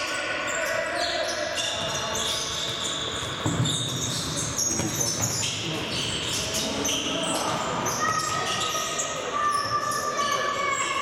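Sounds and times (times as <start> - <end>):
shoes squeaking on court floor: 0.0 - 11.0.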